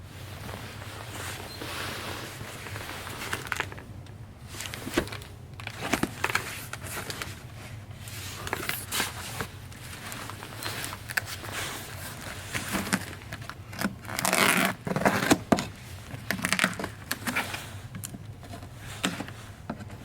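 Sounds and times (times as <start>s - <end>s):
rustling and crinkling handling noise: 0.0s - 20.0s.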